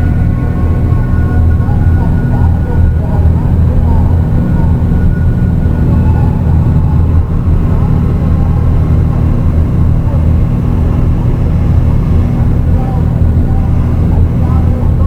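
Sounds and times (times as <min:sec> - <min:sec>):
dark ambient drone music: 0:00.0 - 0:15.0.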